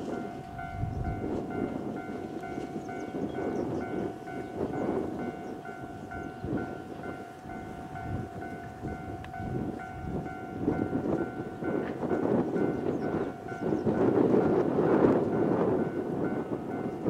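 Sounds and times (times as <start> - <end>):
level crossing warning bell: 0.0 - 17.0
train rumble: 0.0 - 17.0.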